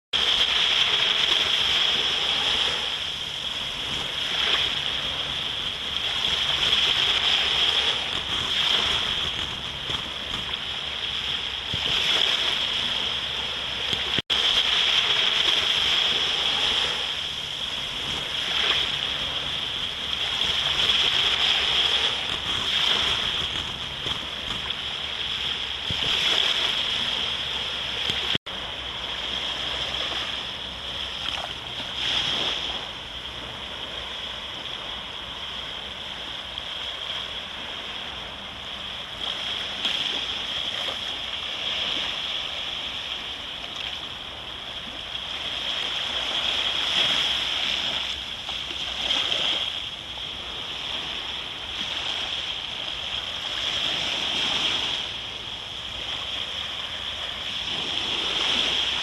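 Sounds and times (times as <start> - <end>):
sea waves washing on beach: 0.2 - 59.0.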